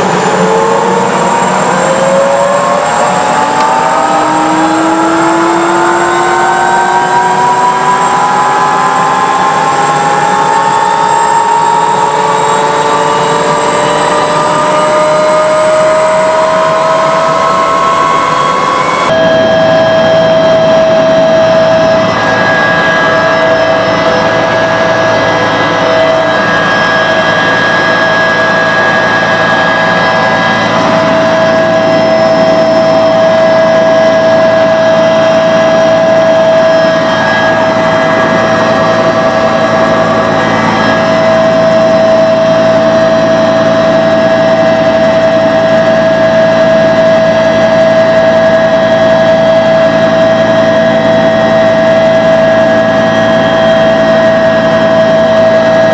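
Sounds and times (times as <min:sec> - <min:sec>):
helicopter cabin drone: 0:00.0 - 0:55.9
high whining tones: 0:00.0 - 0:55.9.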